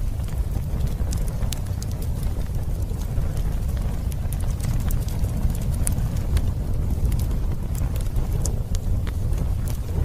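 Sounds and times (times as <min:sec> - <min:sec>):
fire crackling: 0:00.0 - 0:10.0
low rumble: 0:00.0 - 0:10.0.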